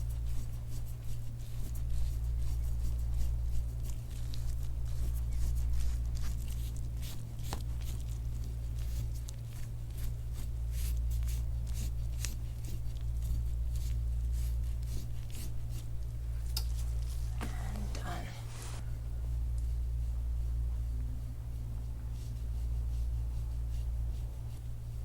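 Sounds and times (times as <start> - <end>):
hands rubbing skin and clothing: 0.0 - 24.9
low hum: 0.0 - 25.0.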